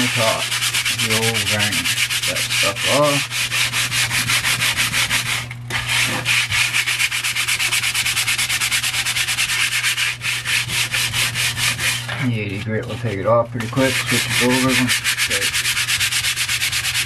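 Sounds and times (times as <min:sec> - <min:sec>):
sandpaper rubbing on wood: 0:00.0 - 0:12.1, 0:12.8 - 0:17.0.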